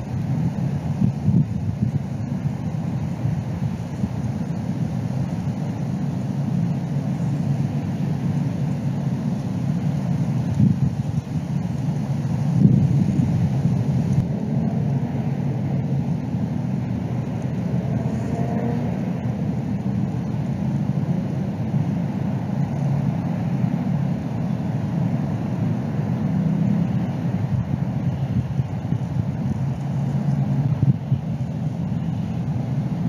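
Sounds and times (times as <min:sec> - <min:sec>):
low rumbling background noise: 0:00.0 - 0:33.0.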